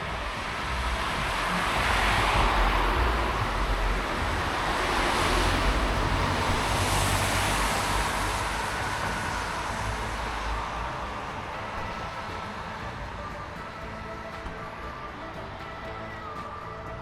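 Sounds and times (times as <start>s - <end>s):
low traffic rumble: 0.0s - 17.0s
passing cars: 0.0s - 17.0s.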